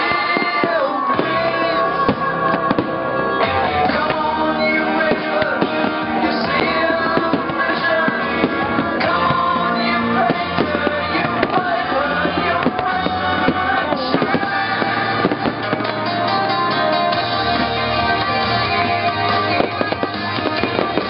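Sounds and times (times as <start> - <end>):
fireworks bangs and crackle: 0.0 - 21.0
song with singing voice: 0.0 - 21.0.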